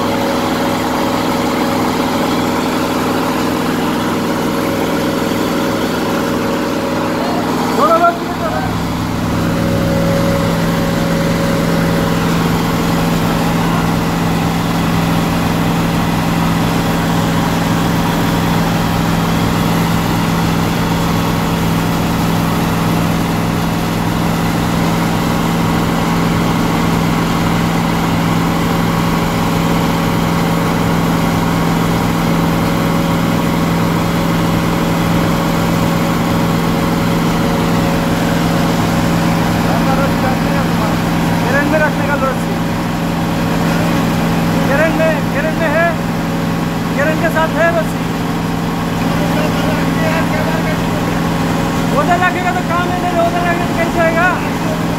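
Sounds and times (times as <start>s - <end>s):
large engine droning: 0.0s - 54.9s.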